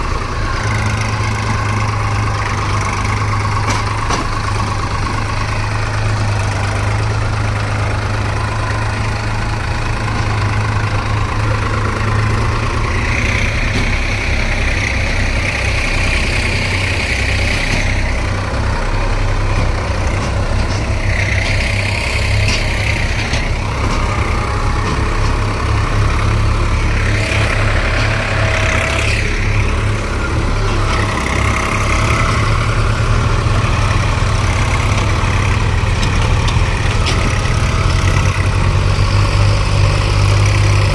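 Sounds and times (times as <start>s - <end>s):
diesel engine running: 0.0s - 40.9s
high engine whine: 0.0s - 40.9s.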